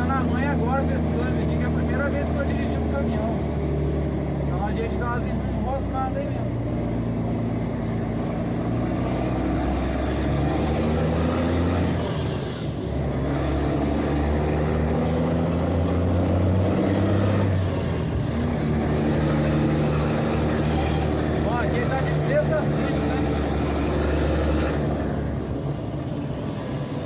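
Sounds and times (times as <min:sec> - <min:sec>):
diesel truck engine: 0:00.0 - 0:27.0.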